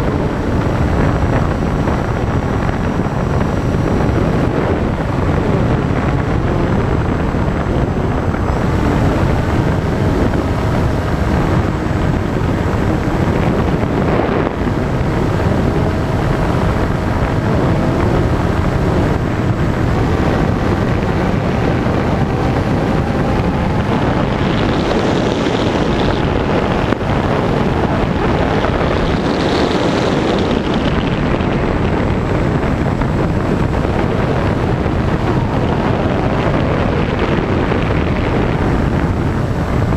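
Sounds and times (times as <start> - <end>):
faint whine: 0.0 - 39.9
wind rush over microphone: 0.0 - 39.9.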